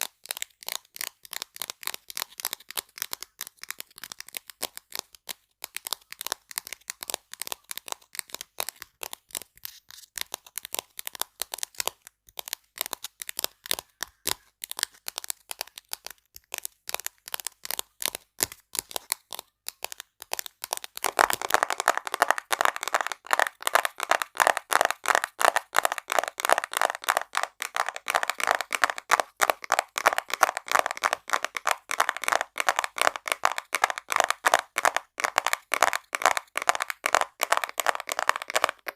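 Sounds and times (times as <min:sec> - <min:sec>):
rapid tapping on small objects: 0:00.0 - 0:38.9.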